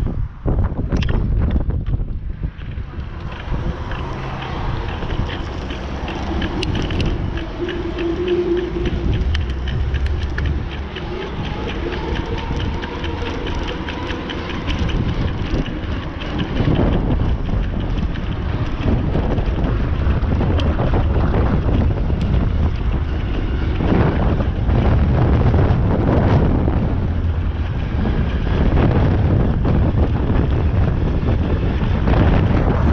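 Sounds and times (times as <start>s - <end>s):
low road rumble: 0.0s - 32.9s
wind buffeting microphone: 0.0s - 32.9s
fast even ticking: 2.6s - 32.9s.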